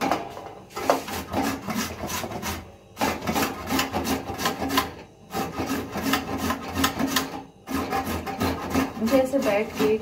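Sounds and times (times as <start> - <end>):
carrots grated on metal grater: 0.8 - 10.0.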